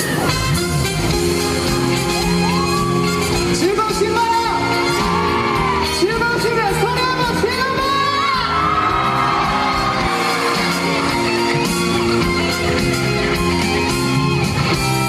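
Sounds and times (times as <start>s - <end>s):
instrumental music over loudspeakers: 0.0s - 15.0s.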